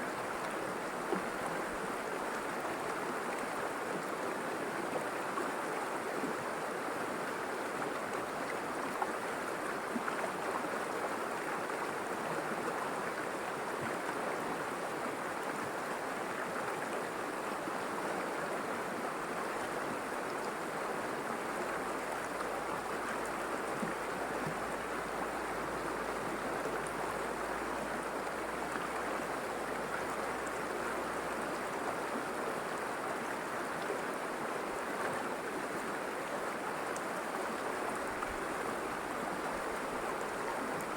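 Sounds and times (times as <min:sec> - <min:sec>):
river water flowing and splashing: 0:00.0 - 0:40.9.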